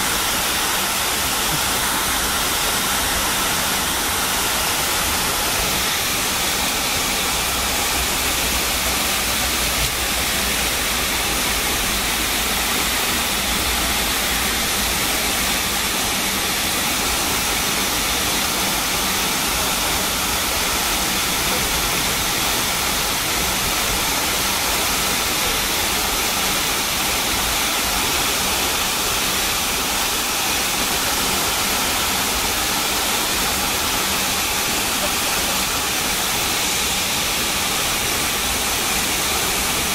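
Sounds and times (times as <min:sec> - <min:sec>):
jet engine hiss in cabin: 0:00.0 - 0:39.9.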